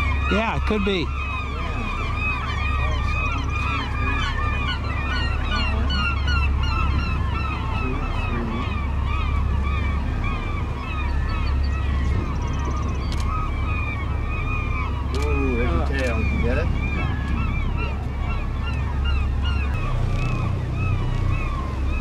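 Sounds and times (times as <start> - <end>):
boat engine hum: 0.0 - 22.0
seabirds calling: 0.0 - 22.0.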